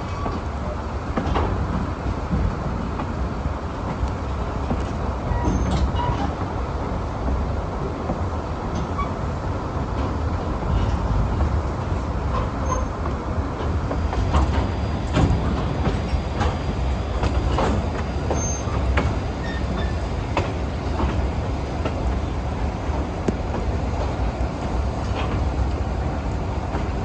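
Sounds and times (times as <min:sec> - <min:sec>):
train car rumbling on track: 0:00.0 - 0:27.0
wheels clicking on rail joints: 0:03.8 - 0:06.6, 0:07.2 - 0:27.0.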